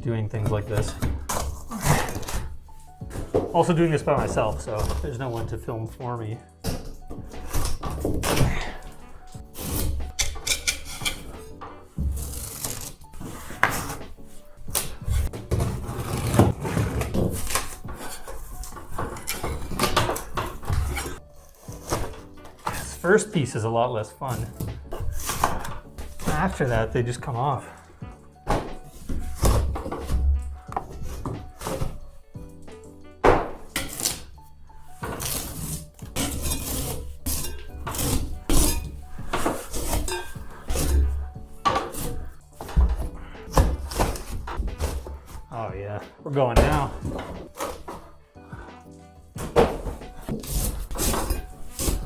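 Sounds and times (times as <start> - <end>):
ceiling tiles scraped and cracking: 0.3 - 5.7, 6.6 - 23.6, 24.2 - 45.5, 46.6 - 52.0.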